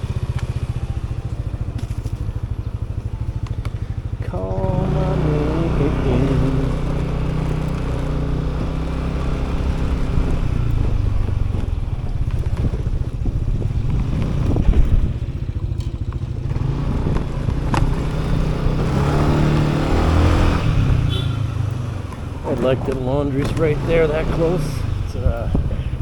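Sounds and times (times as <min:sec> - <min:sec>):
motorcycle engine running: 0:00.0 - 0:26.0
street traffic: 0:00.0 - 0:26.0.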